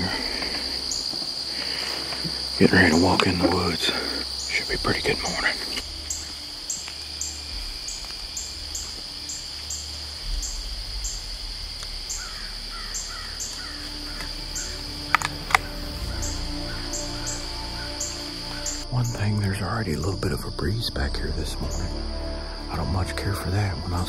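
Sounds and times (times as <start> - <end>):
bird calling: 0.0 - 20.0
crickets and katydids chirping: 0.0 - 24.0.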